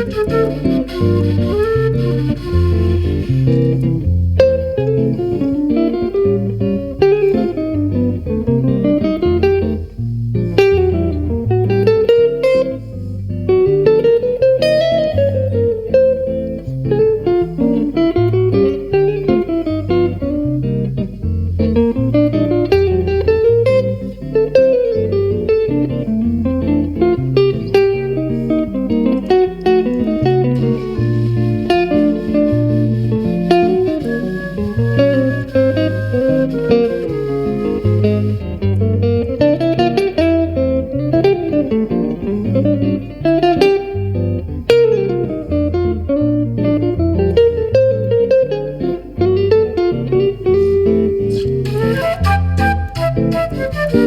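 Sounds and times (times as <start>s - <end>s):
jazz guitar lines: 0.0s - 54.0s.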